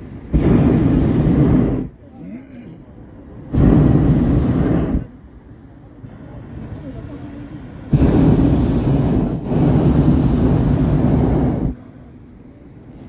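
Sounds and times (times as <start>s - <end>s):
propane burner blasts: 0.0s - 2.2s, 3.4s - 5.1s, 6.1s - 13.0s.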